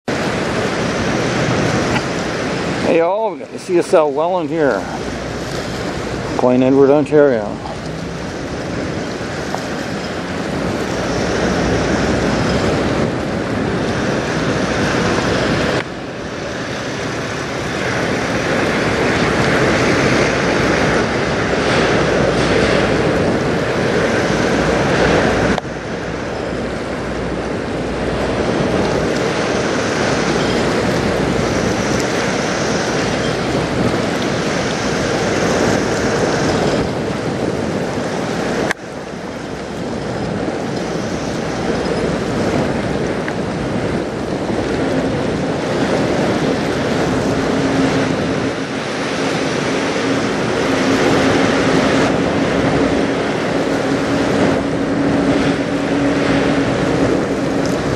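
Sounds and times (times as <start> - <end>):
river water lapping: 0.0 - 57.9
ship machinery hum: 0.0 - 57.9
wind on microphone: 0.0 - 57.9.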